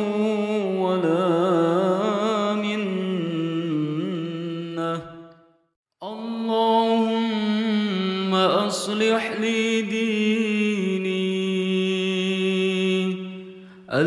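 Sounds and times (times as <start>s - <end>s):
person chanting melodically: 0.0s - 5.4s, 6.0s - 14.0s.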